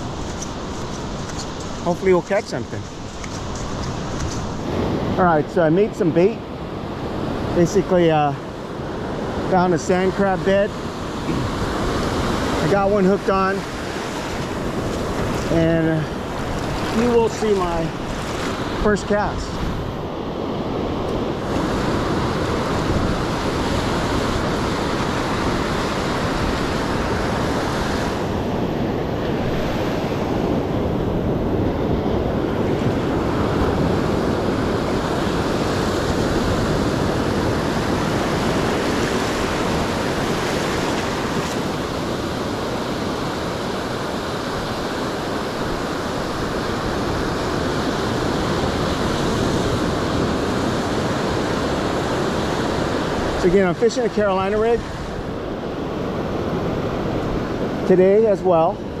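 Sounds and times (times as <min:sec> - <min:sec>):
ocean surf breaking: 0:00.0 - 0:59.0
wind on microphone: 0:06.5 - 0:57.9.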